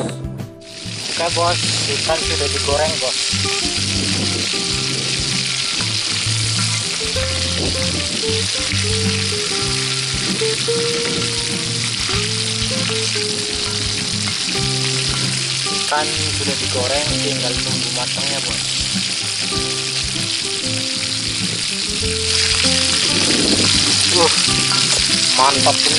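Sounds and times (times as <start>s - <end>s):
background melody: 0.0s - 25.9s
fish sizzling in hot oil: 0.7s - 25.9s.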